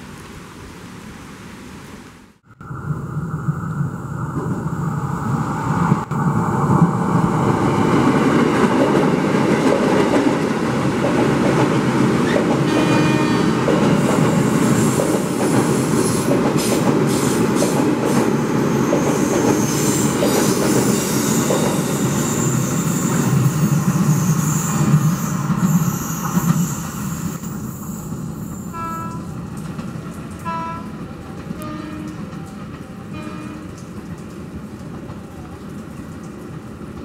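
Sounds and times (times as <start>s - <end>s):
train wheels rumbling on rails: 3.0s - 37.0s.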